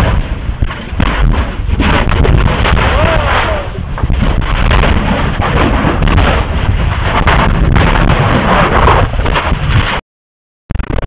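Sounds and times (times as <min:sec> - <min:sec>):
lava exploding roar: 0:00.0 - 0:10.0
wind buffeting microphone: 0:00.0 - 0:10.0.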